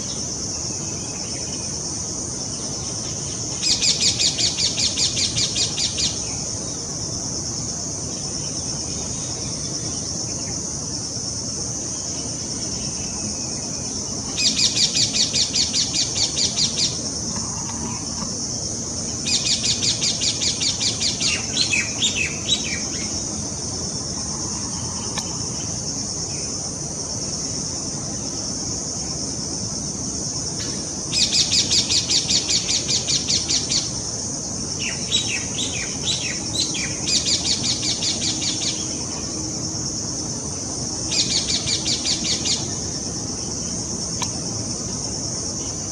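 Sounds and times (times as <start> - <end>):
steady high hiss: 0.0 - 45.9.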